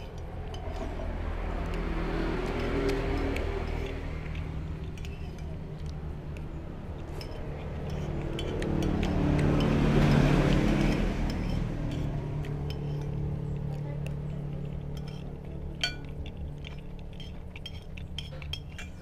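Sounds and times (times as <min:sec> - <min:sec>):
vehicle engine running: 0:00.0 - 0:19.0
spoon scraping ceramic plate: 0:02.4 - 0:13.5, 0:14.6 - 0:19.0.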